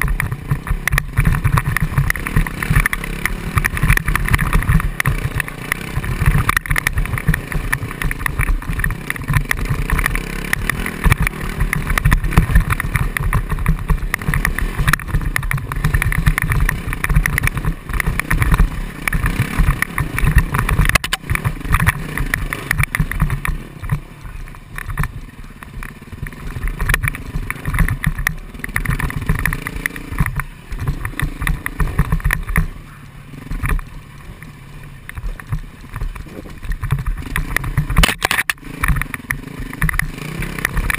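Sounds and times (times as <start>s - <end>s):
knocks from bumpy ride: 0.0s - 33.9s, 35.1s - 40.9s
dirt bike engine revving: 0.0s - 40.9s.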